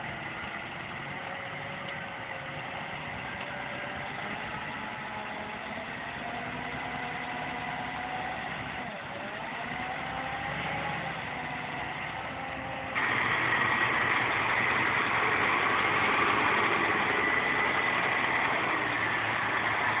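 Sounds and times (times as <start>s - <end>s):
diesel truck engine in mud: 0.0s - 20.0s.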